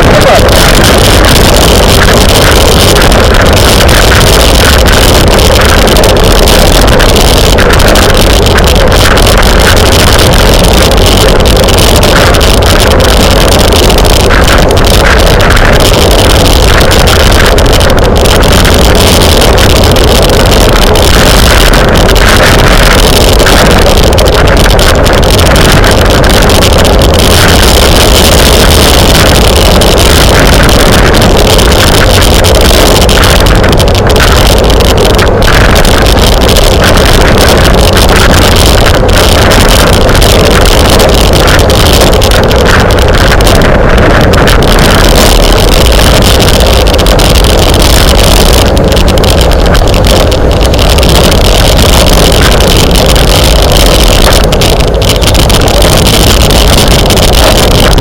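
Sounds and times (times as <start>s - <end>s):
loud wind rush on microphone: 0.0s - 58.0s.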